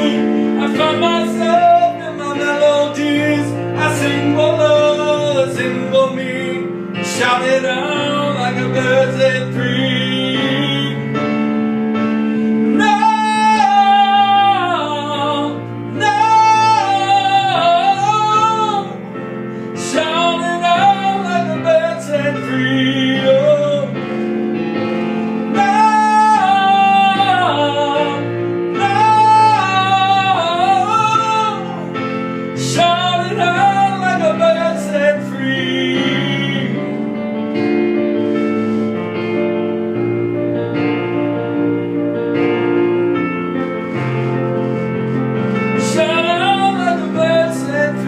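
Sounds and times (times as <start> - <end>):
piano chords: 0.0 - 48.0.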